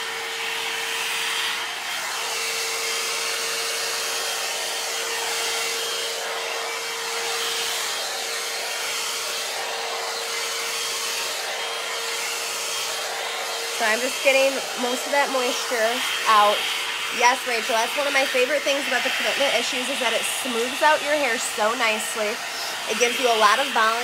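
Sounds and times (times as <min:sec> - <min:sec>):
blow dry brush blowing air: 0:00.0 - 0:24.0.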